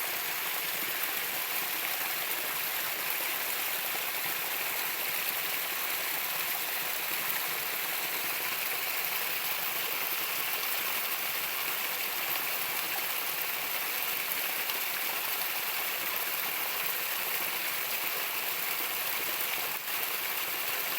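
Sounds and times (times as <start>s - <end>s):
stream water rushing: 0.0s - 20.9s.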